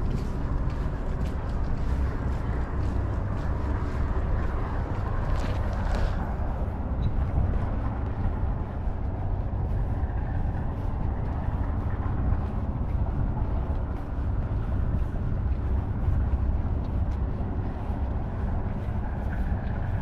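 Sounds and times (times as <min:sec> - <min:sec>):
low rumble of vehicle engines: 0:00.0 - 0:20.0.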